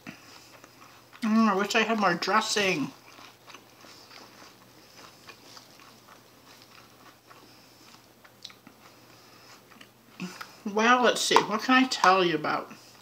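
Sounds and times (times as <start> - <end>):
chewing and crunching salad: 0.0 - 10.7.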